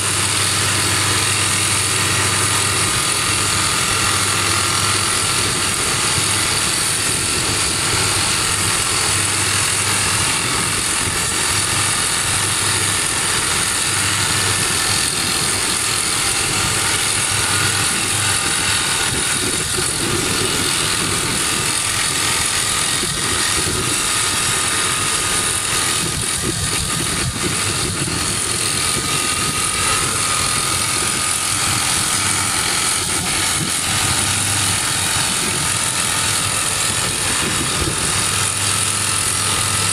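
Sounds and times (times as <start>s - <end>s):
drill rig hammering rock: 0.0s - 39.9s
rig engine running: 0.0s - 39.9s.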